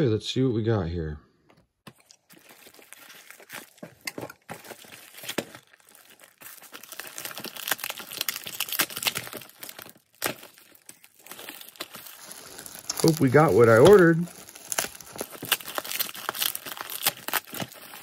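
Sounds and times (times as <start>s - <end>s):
packaging crinkling and tearing: 1.9s - 18.0s.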